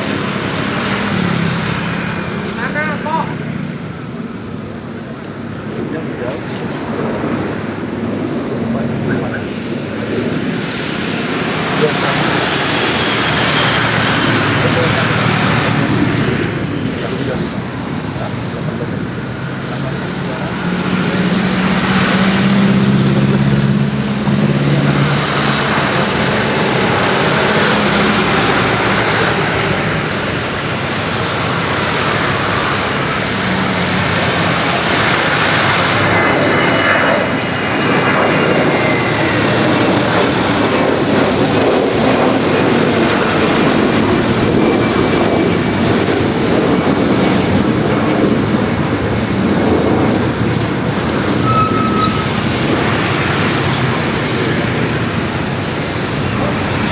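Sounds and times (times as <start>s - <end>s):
jet engines roaring: 0.0s - 56.9s.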